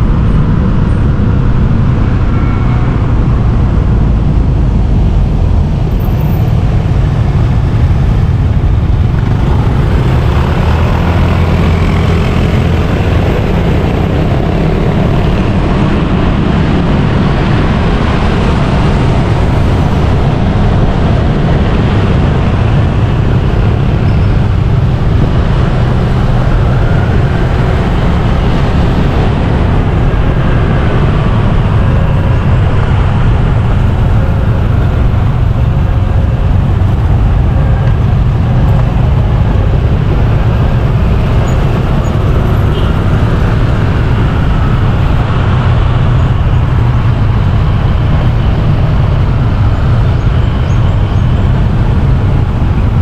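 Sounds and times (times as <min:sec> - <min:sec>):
road and traffic rumble: 0:00.0 - 0:53.0.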